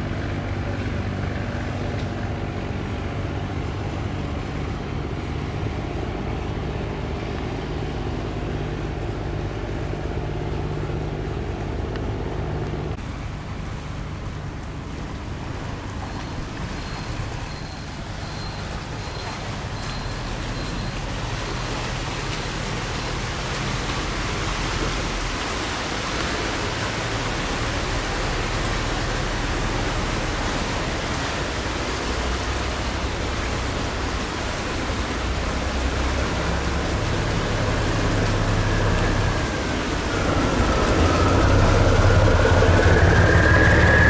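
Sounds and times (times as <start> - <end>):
boat engine running: 0.0 - 44.0
water rushing through sluice gate: 0.0 - 44.0.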